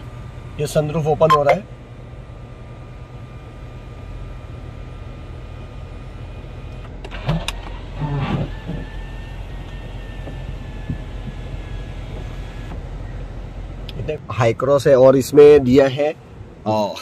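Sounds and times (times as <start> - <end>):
sunroof motor whirring: 0.0 - 14.0.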